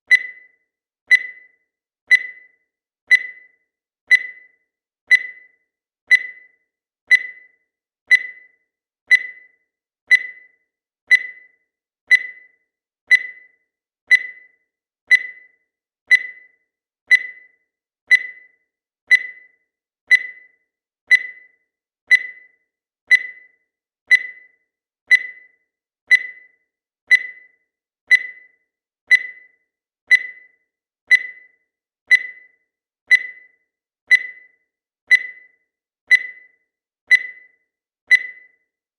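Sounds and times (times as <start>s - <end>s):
high-pitched timer beeps: 0.0s - 38.8s.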